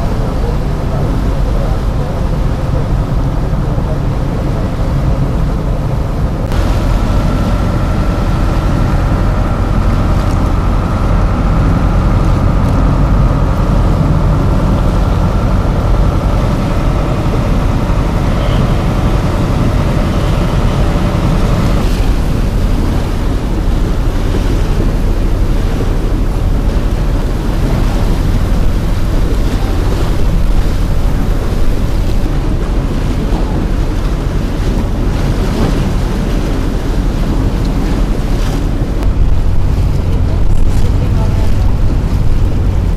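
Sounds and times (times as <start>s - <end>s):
boat engine rumble: 0.0s - 42.9s
steady hum: 0.0s - 42.9s
water rushing past hull: 0.0s - 42.9s
wind buffeting microphone: 0.0s - 42.9s.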